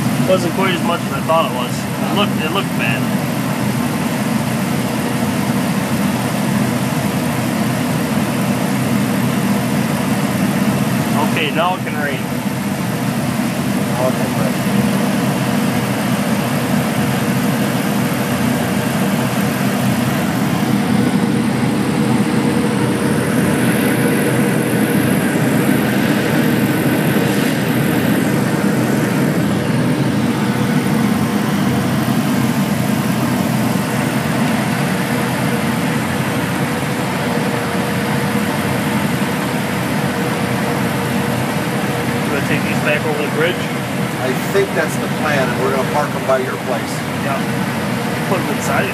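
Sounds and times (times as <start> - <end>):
constant whine: 0.0 - 48.9
heavy engine running: 0.0 - 48.9.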